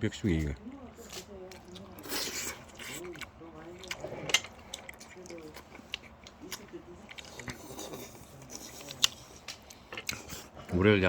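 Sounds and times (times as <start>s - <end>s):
faint low voices: 0.0s - 11.0s
people chewing: 0.0s - 11.0s.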